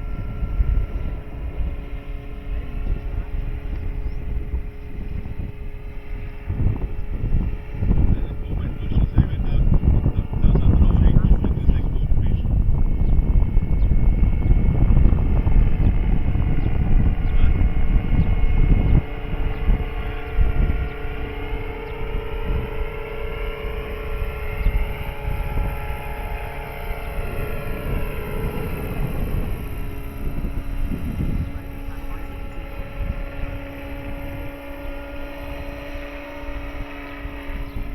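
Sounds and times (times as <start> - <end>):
helicopter motor and rotor whine: 0.0 - 37.9
wind buffeting microphone: 0.0 - 37.9.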